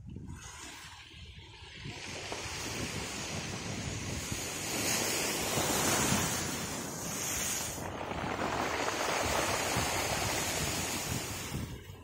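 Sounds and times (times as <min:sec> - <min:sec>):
wind rumble on microphone: 0:00.0 - 0:12.0
sea waves breaking: 0:00.3 - 0:12.0.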